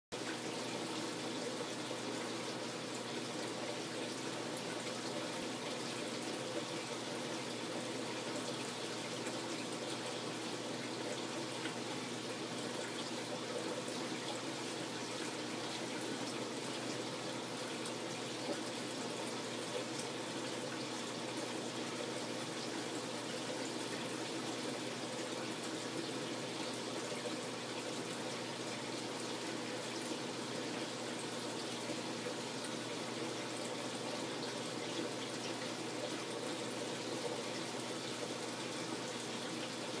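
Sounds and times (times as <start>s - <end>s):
aquarium water rushing and trickling: 0.1s - 40.0s.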